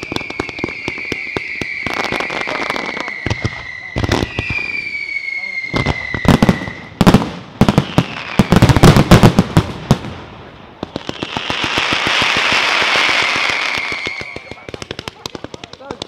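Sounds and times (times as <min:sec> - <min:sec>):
firework bangs: 0:00.0 - 0:16.0
firework fountains hissing: 0:00.0 - 0:16.0.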